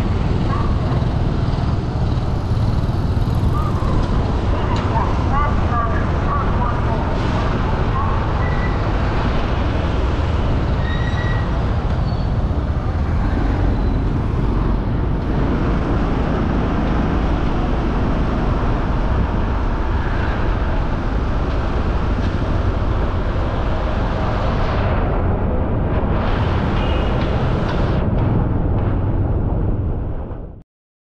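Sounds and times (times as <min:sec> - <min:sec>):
street traffic rumble: 0:00.0 - 0:30.5.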